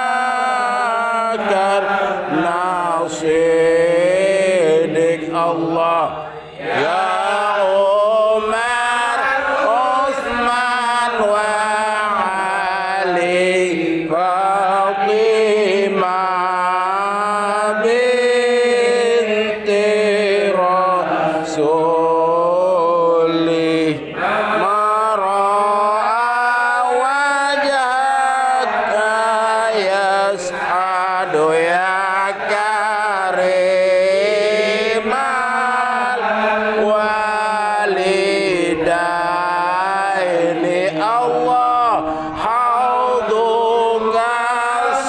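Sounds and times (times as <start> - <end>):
men's voices chanting: 0.0 - 45.0.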